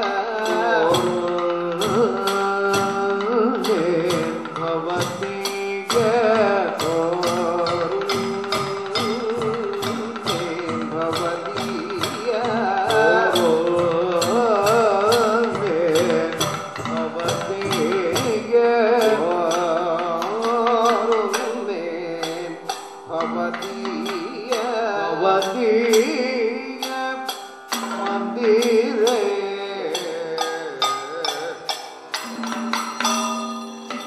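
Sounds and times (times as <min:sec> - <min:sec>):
man singing: 0:00.0 - 0:32.9
small cymbals: 0:00.0 - 0:34.0
stick-beaten drum: 0:00.0 - 0:34.0.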